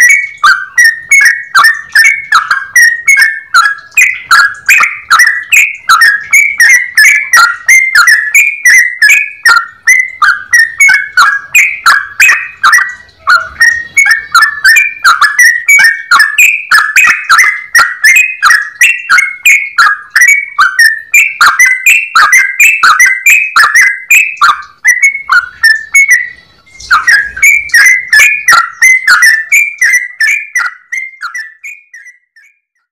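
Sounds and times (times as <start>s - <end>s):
bird singing bubbly chirps: 0.0s - 32.9s.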